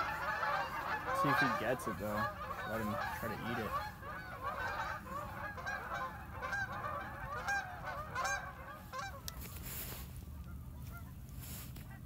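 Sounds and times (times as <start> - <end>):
birds honking: 0.0 - 12.0.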